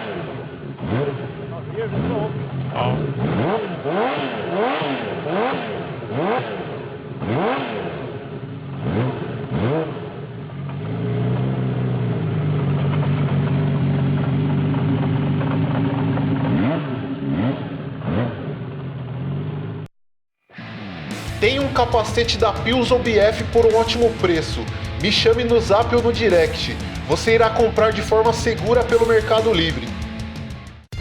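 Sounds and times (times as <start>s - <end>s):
motorcycle engine revving: 0.0s - 19.9s, 20.6s - 31.0s.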